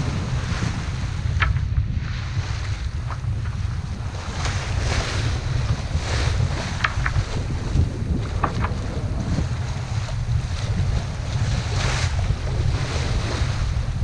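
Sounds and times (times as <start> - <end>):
bow wave splashing: 0.0 - 14.0
wind buffeting microphone: 0.0 - 14.0.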